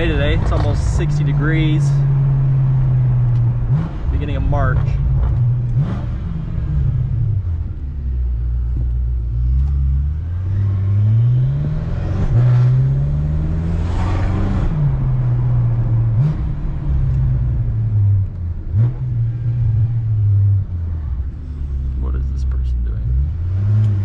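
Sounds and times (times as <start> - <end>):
car engine accelerating through gears: 0.0 - 24.0.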